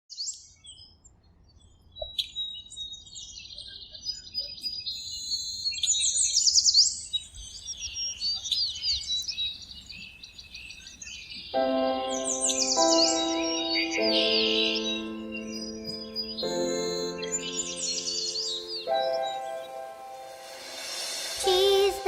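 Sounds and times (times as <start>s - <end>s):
birds chirping and trilling: 0.1s - 22.0s.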